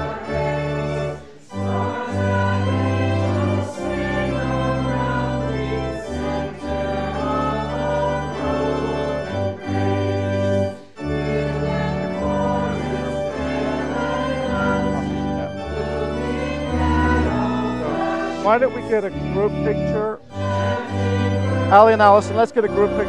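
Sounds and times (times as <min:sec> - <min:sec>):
church organ playing chords: 0:00.0 - 0:23.0.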